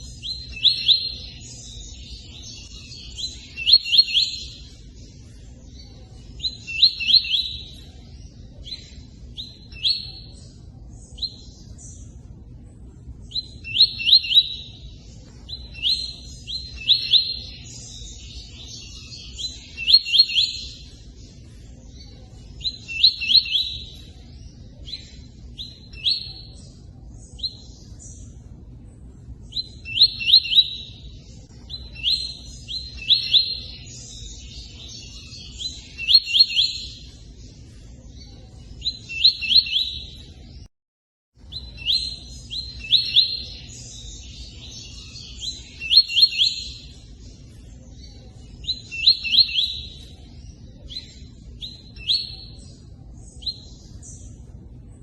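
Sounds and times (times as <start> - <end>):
bird song high rising notes: 0.0 - 40.7, 41.4 - 55.0.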